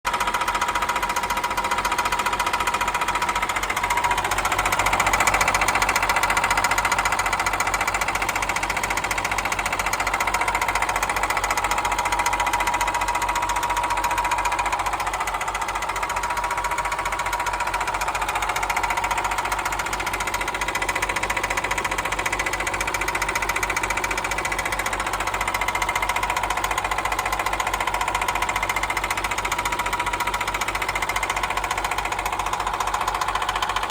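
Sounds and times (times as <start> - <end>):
diesel engine knocking: 0.1 - 33.9.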